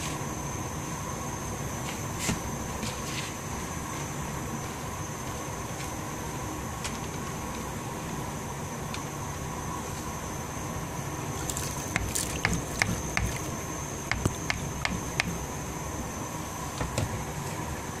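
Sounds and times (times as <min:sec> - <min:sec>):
gas flame and boiling pot hiss: 0:00.0 - 0:18.0.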